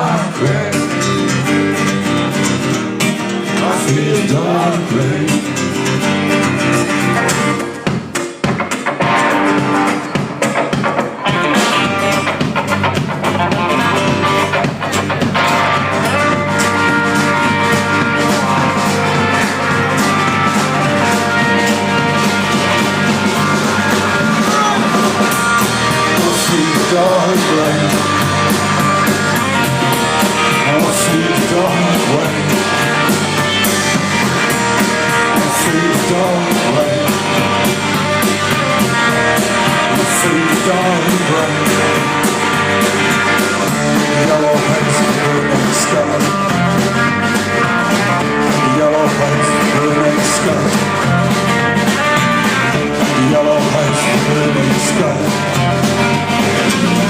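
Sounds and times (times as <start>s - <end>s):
live band playing rock: 0.0s - 57.0s.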